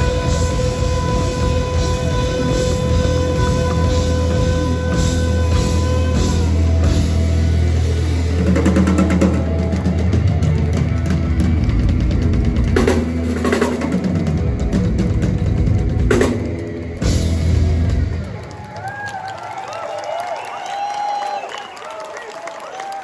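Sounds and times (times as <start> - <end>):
live rock band playing: 0.0 - 19.0
rapid drumming: 0.0 - 19.4.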